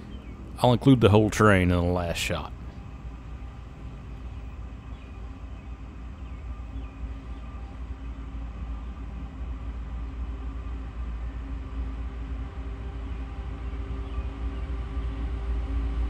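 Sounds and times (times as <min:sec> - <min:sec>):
distant locomotive rumble: 0:00.0 - 0:16.0.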